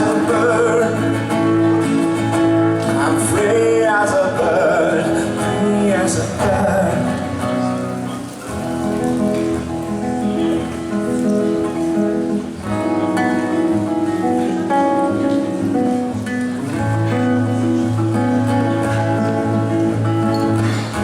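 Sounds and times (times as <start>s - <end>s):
acoustic rock band playing: 0.0s - 21.0s
strummed acoustic guitar: 0.0s - 21.0s.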